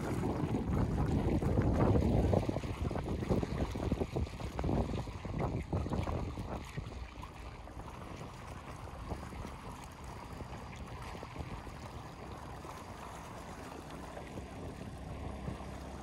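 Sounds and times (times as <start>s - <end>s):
light wind: 0.0s - 16.0s.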